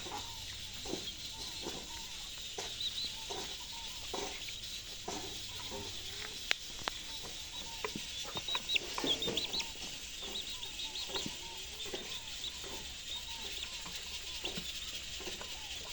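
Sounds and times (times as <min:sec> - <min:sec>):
chicks peeping: 0:00.0 - 0:15.9
hen clucking softly: 0:00.0 - 0:15.9
sharp ticks: 0:00.0 - 0:15.9.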